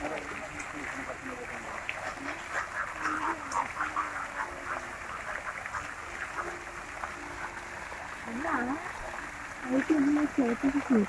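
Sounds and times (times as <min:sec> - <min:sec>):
rapid animal calls: 0:00.0 - 0:09.3
fountains splashing: 0:00.0 - 0:11.0.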